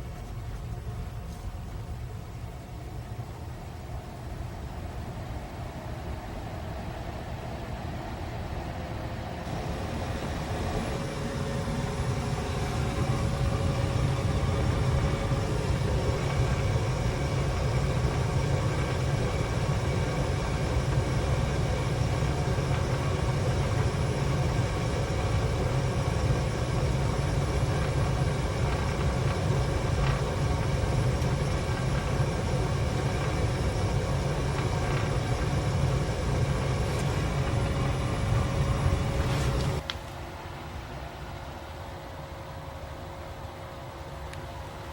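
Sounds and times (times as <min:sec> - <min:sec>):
faint furnace whine: 0:00.0 - 0:44.9
gas furnace humming: 0:00.0 - 0:44.9.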